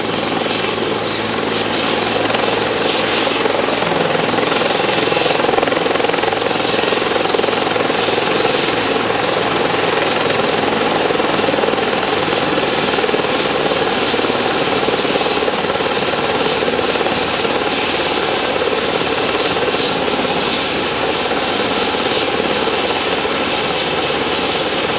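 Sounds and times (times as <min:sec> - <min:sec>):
helicopter rotor and turbine: 0:00.0 - 0:24.9.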